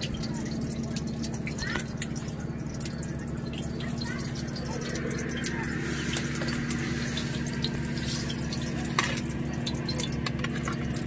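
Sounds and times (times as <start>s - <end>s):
steady low hum: 0.0s - 11.0s
water dripping: 0.0s - 11.0s.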